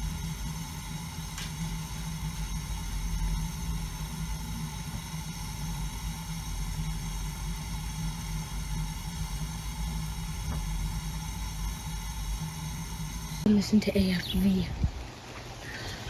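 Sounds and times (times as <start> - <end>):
low mechanical hum and rumble: 0.0 - 16.0.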